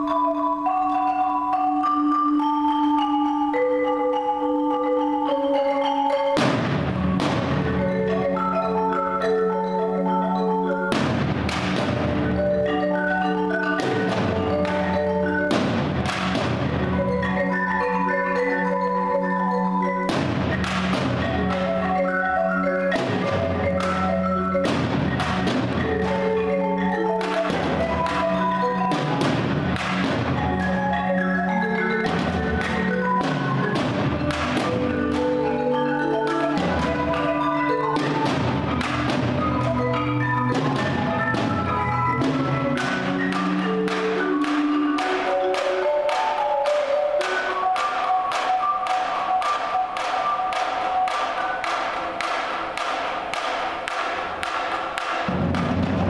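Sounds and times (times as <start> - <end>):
marimbas playing fast patterns: 0.0 - 56.0
sharp percussive hits: 5.5 - 19.2, 19.8 - 56.0.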